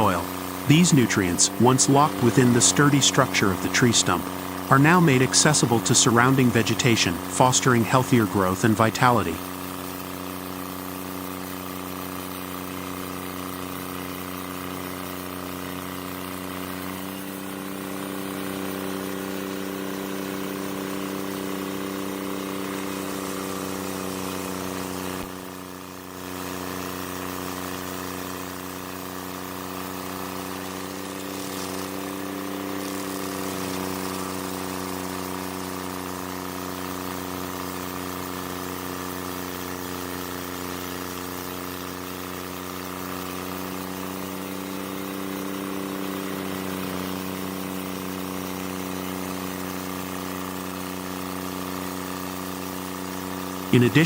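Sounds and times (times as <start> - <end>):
stump grinder engine humming: 0.0 - 54.0.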